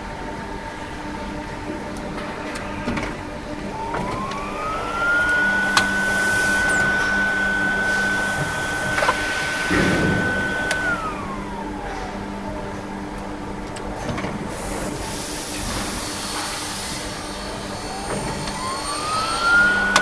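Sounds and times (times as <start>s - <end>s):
mechanical hum: 0.0s - 20.0s
motor whine: 1.1s - 20.0s.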